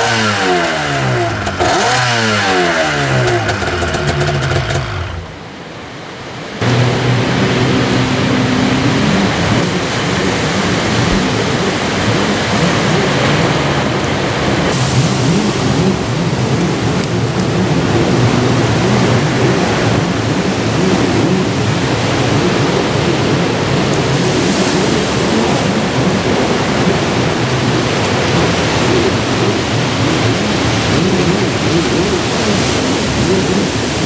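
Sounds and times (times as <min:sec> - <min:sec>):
breaking ocean surf: 0:00.0 - 0:34.0
wind buffeting microphone: 0:06.5 - 0:34.0.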